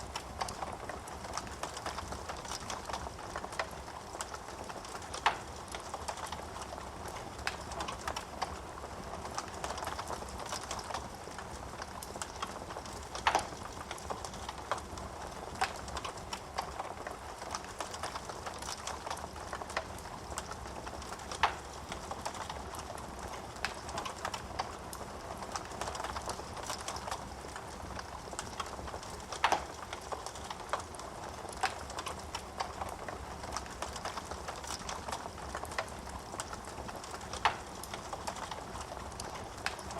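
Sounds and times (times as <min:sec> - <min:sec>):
burning wood popping: 0:00.0 - 0:39.9
fire hissing and crackling: 0:00.0 - 0:39.9.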